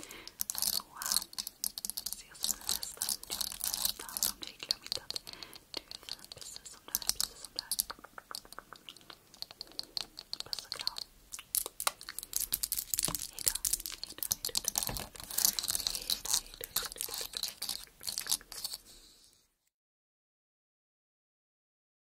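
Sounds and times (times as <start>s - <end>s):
fingertips tapping on a lens: 0.0s - 19.0s.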